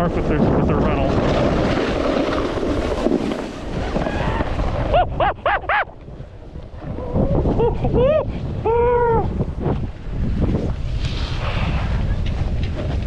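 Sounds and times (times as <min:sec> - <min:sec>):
snowboard sliding over snow: 0:00.0 - 0:08.7, 0:09.4 - 0:13.0
wind rushing across microphone: 0:00.0 - 0:13.0.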